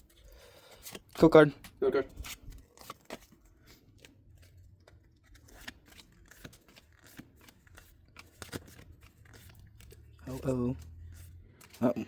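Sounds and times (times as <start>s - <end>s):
trading cards clicking and sliding: 0.5s - 12.0s.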